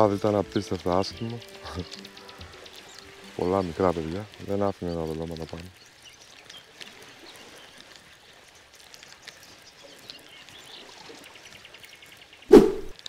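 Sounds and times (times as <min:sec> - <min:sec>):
small waves on sandy shore: 0:00.7 - 0:13.0.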